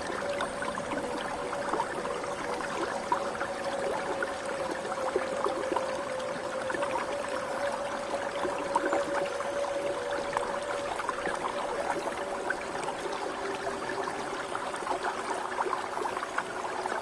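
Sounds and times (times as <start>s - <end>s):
stream babbling over rocks: 0.0s - 17.0s.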